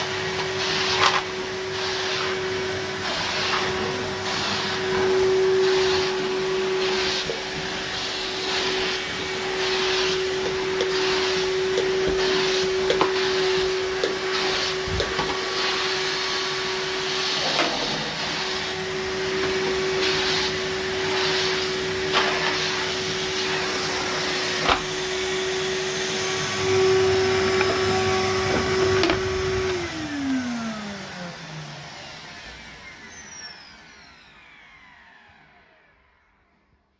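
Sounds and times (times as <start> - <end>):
vacuum swishing hiss: 0.0 - 32.3
vacuum cleaner motor whine: 0.0 - 36.9.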